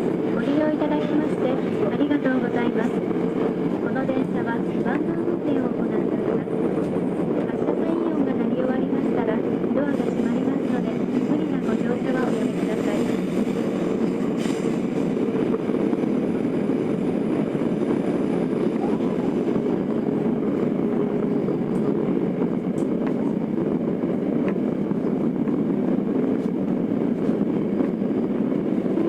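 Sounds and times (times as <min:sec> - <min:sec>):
subway car running: 0:00.0 - 0:29.0.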